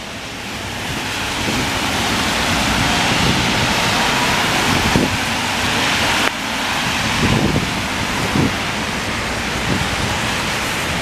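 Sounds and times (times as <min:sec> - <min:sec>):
tyres hissing on wet street: 0:00.0 - 0:11.0.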